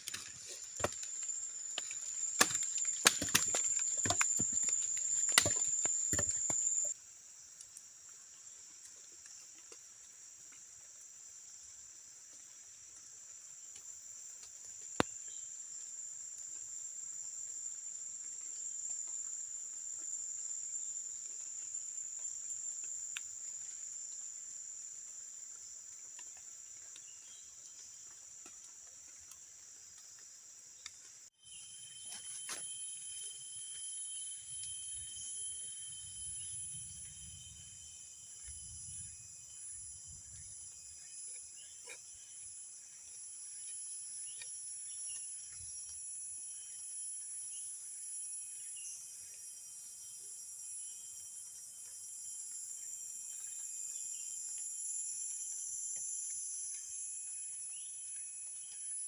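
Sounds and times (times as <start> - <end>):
insect chorus: 0.0 - 59.0
insects trilling: 0.0 - 59.0.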